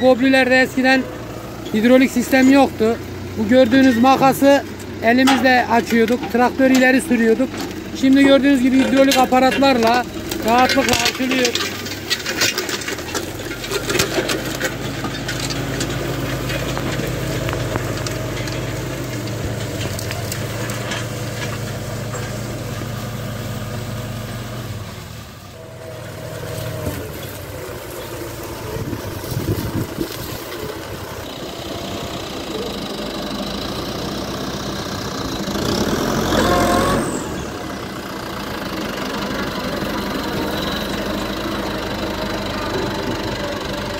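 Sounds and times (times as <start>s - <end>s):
harrow discs clattering: 0.0s - 24.0s, 25.6s - 43.9s
tractor diesel engine under load: 0.0s - 43.9s.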